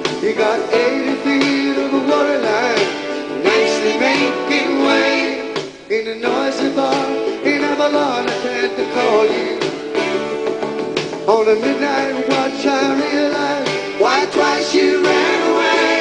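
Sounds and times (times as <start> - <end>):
song with singing and guitar: 0.0 - 16.0.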